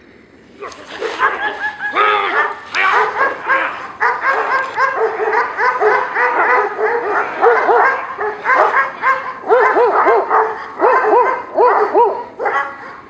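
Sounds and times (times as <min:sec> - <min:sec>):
dog barking rapidly: 0:00.6 - 0:13.0.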